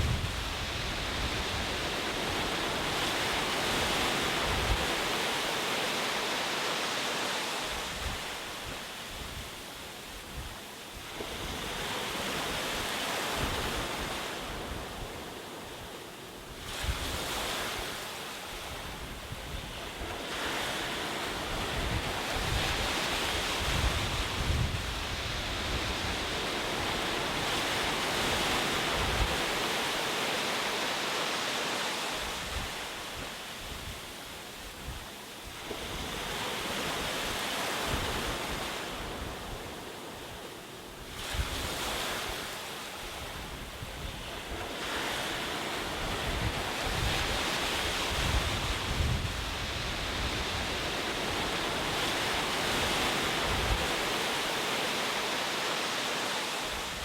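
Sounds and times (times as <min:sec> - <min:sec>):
wind noise on microphone: 0:00.0 - 0:05.5, 0:07.6 - 0:15.7, 0:16.5 - 0:30.1, 0:32.1 - 0:40.4, 0:41.0 - 0:54.7
ocean waves breaking on shore: 0:00.0 - 0:57.0.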